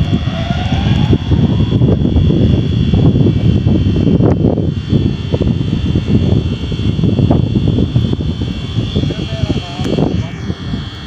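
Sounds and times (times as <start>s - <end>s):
electric locomotive rumble and whine: 0.0s - 11.0s.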